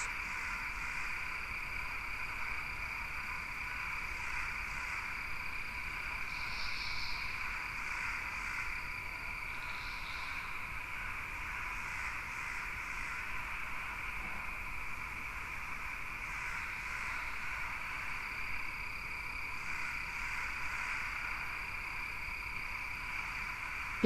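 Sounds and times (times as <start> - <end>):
steady chirring drone: 0.0 - 24.0.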